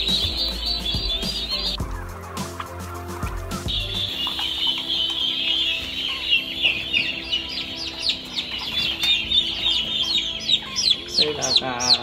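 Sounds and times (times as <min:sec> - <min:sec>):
lower bird call: 0:00.0 - 0:12.0
turkey poults peeping: 0:00.0 - 0:12.0.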